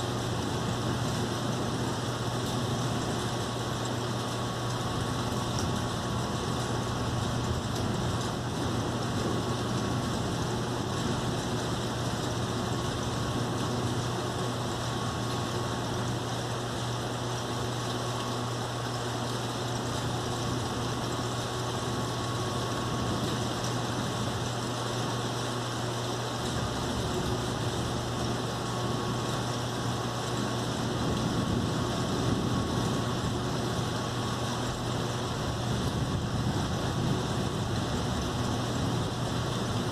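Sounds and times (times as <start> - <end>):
constant low hum: 0.0 - 39.9
rain hissing: 0.0 - 39.9.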